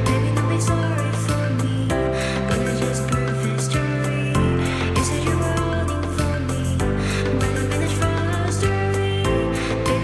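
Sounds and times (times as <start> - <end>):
instrumental pop music: 0.0 - 10.0.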